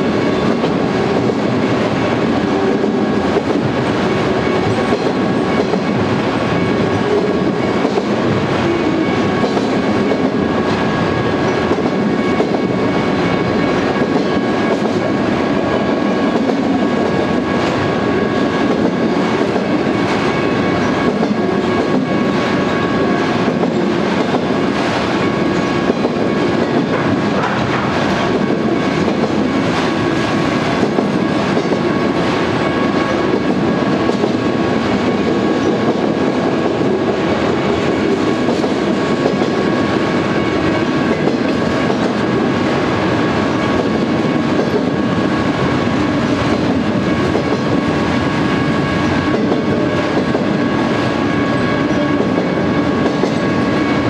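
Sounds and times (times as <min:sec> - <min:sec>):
clickety-clack over rail joints: 0:00.0 - 0:54.0
steel wheels rumbling on rail: 0:00.0 - 0:54.0.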